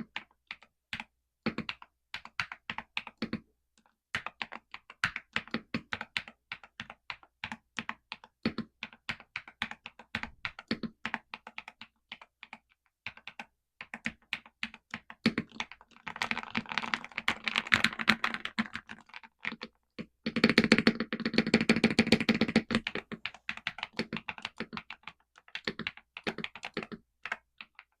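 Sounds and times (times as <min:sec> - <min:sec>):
mechanical keyboard typing: 0:00.0 - 0:03.4, 0:04.1 - 0:28.0.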